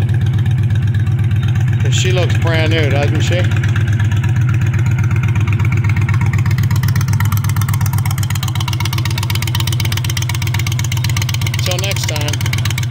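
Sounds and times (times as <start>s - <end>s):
motorcycle engine idling: 0.0s - 12.9s.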